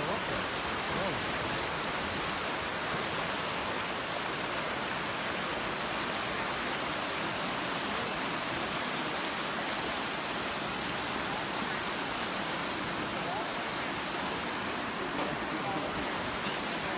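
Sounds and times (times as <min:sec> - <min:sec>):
water rushing over rocks: 0:00.0 - 0:16.9.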